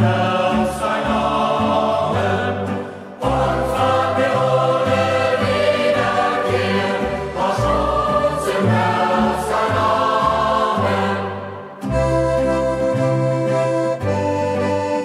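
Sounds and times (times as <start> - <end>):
youth choir singing: 0.0 - 12.1
instrumental accompaniment with bass: 0.0 - 15.0.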